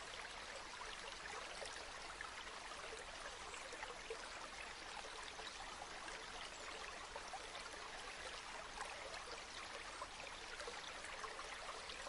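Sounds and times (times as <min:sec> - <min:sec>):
river water flowing gently: 0:00.0 - 0:12.0.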